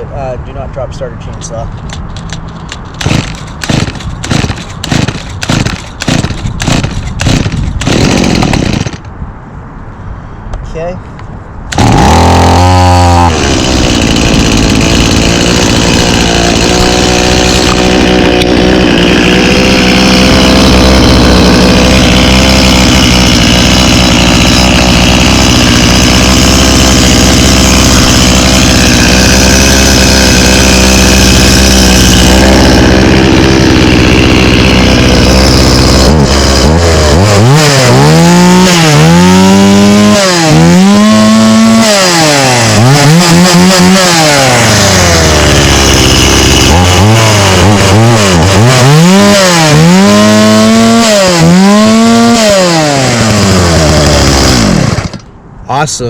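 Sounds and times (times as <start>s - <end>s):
chainsaw engine running and revving: 3.0s - 9.0s, 11.7s - 55.2s.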